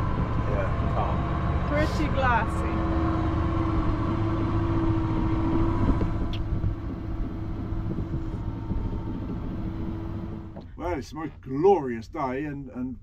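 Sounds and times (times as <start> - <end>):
boat motor humming: 0.0 - 11.8.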